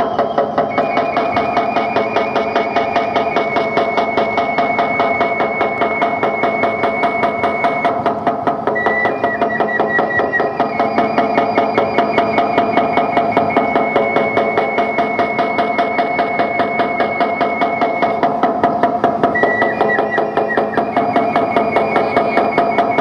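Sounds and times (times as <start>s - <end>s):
steady high tone: 0.0s - 8.0s, 8.6s - 23.0s
drum beaten fast: 0.0s - 23.0s.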